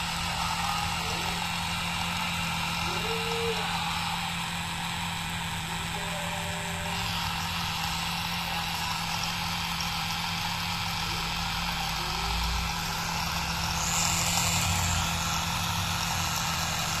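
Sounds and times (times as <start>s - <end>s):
small electric motor humming: 0.0s - 17.0s.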